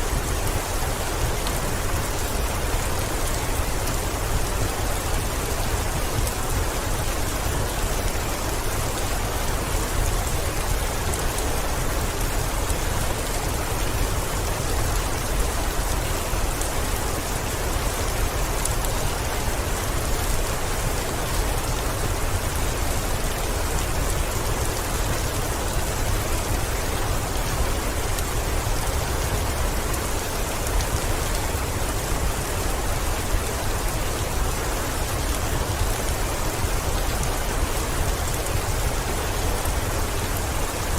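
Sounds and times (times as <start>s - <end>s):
heavy rain on window: 0.0s - 40.9s.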